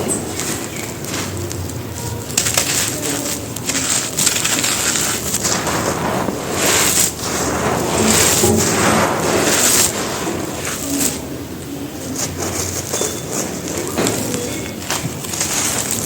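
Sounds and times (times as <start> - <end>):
gritty gravel crunching: 0.0 - 16.0.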